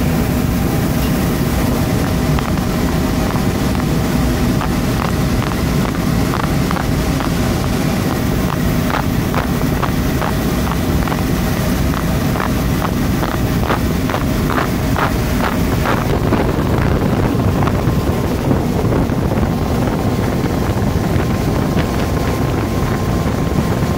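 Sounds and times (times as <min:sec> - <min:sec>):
faint steady whine: 0:00.0 - 0:23.9
machine rumble and hiss: 0:00.0 - 0:23.9.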